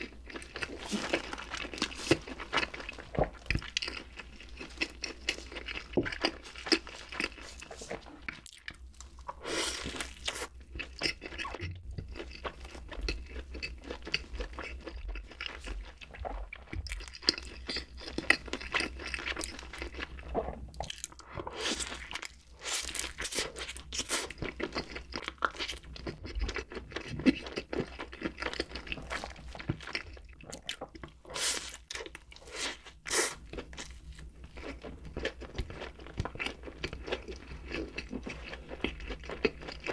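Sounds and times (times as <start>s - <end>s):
person crunching crisp food: 0.0s - 39.9s.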